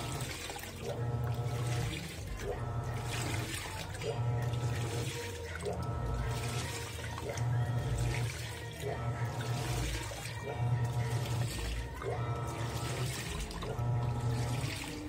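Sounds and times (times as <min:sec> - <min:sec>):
washing machine motor whining: 0:00.0 - 0:15.0
water sloshing: 0:00.0 - 0:15.0.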